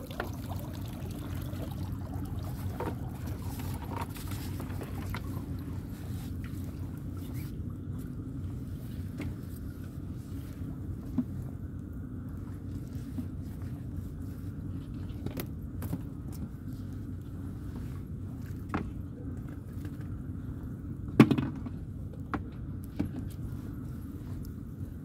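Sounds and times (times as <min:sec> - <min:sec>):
net hauled over boat side: 0:00.0 - 0:25.0
steady low rumble: 0:00.0 - 0:25.0.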